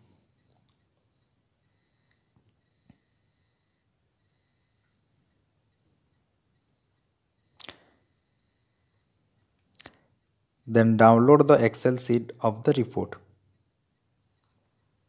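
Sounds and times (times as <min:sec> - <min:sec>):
faint high-pitched whine: 0:00.0 - 0:15.0.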